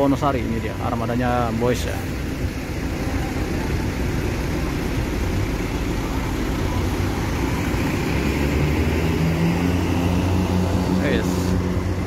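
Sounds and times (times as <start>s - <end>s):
bus diesel engines running: 0.0s - 12.0s.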